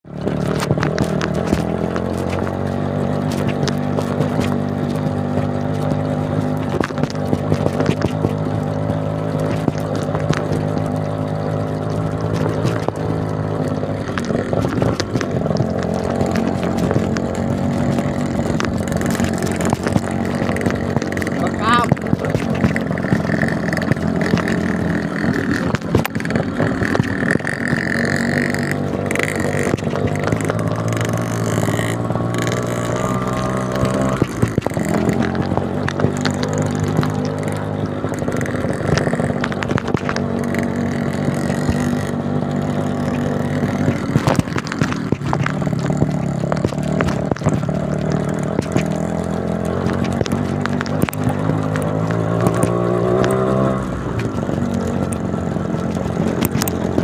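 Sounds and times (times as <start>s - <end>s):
two-stroke motorcycle engine: 0.0s - 57.0s
knocks and rattles: 0.1s - 57.0s.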